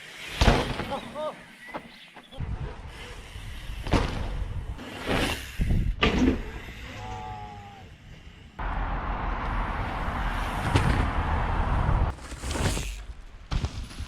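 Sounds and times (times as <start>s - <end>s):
mountain bike on trail: 0.0s - 14.0s.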